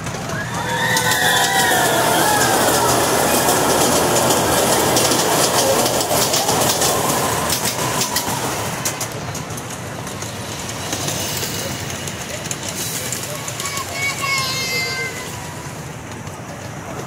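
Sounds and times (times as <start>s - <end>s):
ride train rumbling on track: 0.0s - 17.0s
wheels clicking over rail joints: 0.0s - 17.0s.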